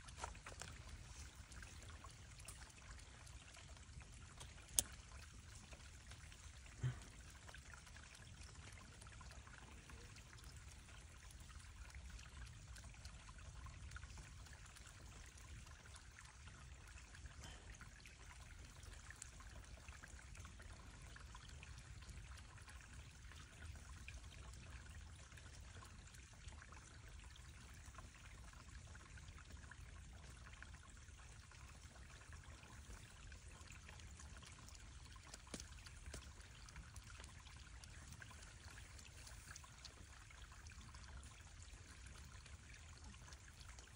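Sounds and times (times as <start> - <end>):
water trickling: 0.0 - 43.9.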